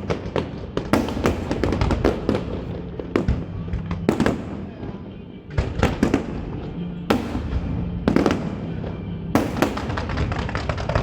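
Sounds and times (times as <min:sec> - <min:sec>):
fireworks shells booming: 0:00.0 - 0:11.0.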